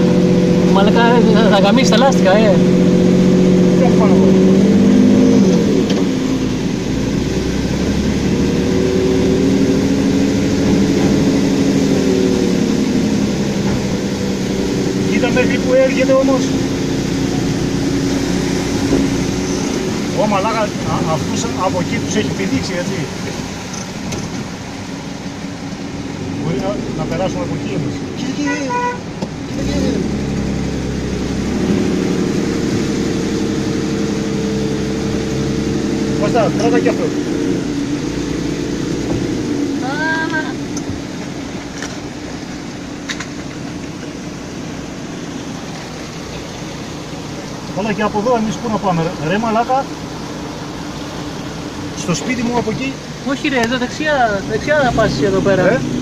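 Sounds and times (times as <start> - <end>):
car engine running at low revs: 0.0 - 56.0
water hissing under car: 1.8 - 28.2, 29.4 - 56.0.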